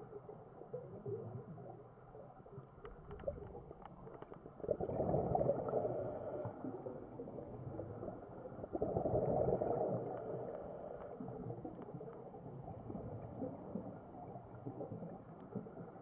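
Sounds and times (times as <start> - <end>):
muffled underwater rumble: 0.0 - 16.0
diver's exhaled bubbles gurgling: 3.0 - 16.0.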